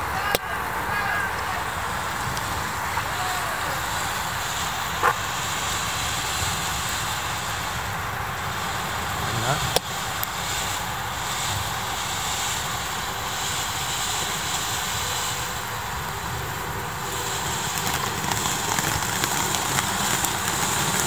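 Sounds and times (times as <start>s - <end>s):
firework crackling: 0.0s - 21.0s
firework fountain hissing: 0.0s - 21.0s.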